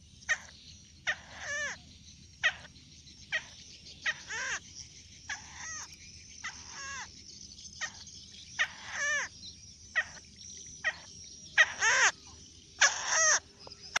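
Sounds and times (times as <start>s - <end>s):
young crakes calling: 0.2s - 7.2s, 7.8s - 14.0s.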